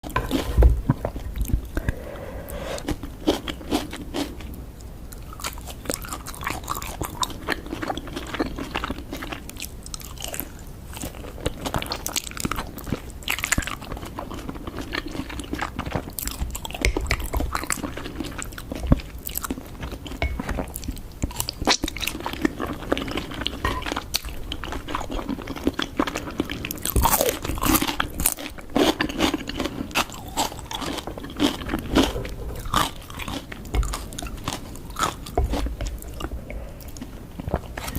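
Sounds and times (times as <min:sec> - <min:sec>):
chewing with mouth noises: 0:00.0 - 0:37.9.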